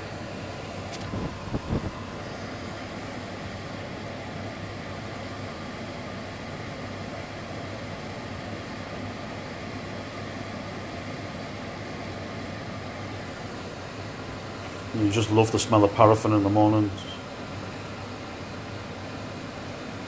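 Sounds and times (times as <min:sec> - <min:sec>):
extractor fan running: 0:00.0 - 0:20.0.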